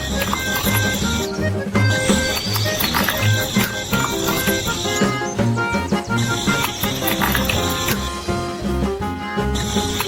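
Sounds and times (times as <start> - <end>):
music with beat and bass pulses: 0.0 - 10.0.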